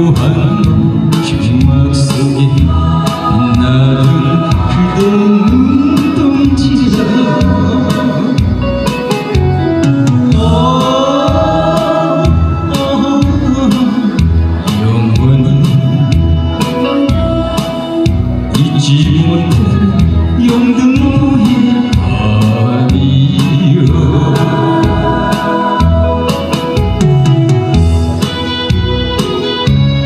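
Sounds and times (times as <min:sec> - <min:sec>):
man singing into a microphone: 0:00.0 - 0:27.3
instrumental accompaniment with beat: 0:00.0 - 0:30.0.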